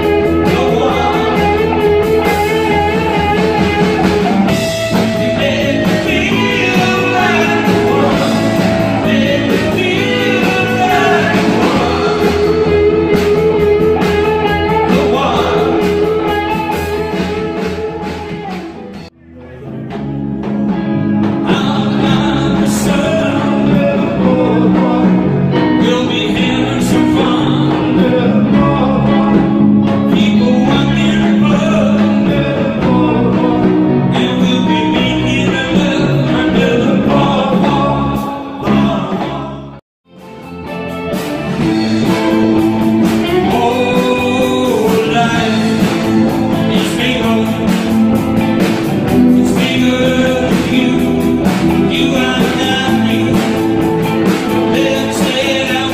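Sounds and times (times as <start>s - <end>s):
man singing: 0.0s - 39.8s, 41.6s - 55.9s
live rock band playing: 0.0s - 55.9s.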